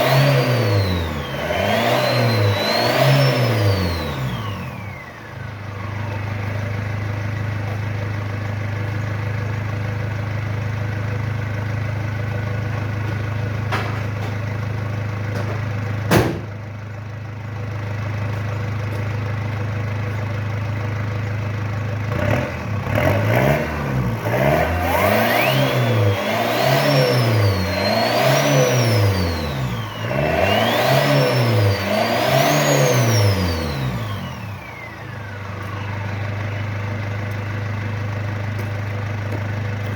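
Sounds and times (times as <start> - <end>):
engine idling and revving: 0.0 - 39.9.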